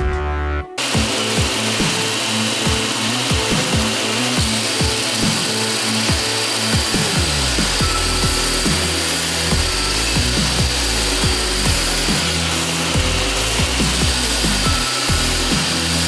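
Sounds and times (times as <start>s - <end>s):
background music with beat: 0.0s - 16.0s
belt grinder grinding steel: 0.8s - 16.0s.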